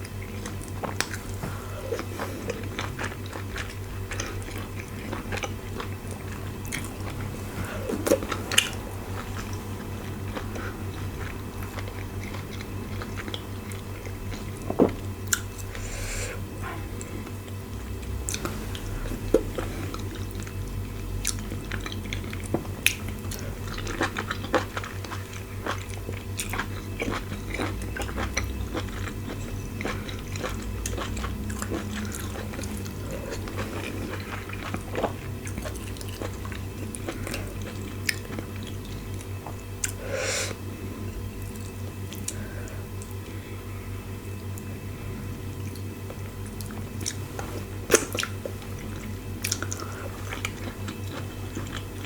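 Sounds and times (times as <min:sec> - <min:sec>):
person chewing food: 0:00.0 - 0:40.6, 0:41.3 - 0:43.4, 0:45.6 - 0:52.0.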